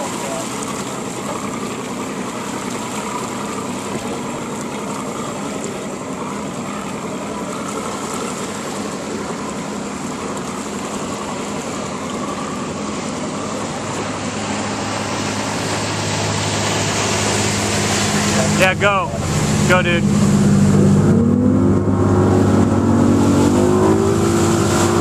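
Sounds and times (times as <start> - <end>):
boat engine idling: 0.0 - 25.0
wind and water rushing: 0.0 - 25.0.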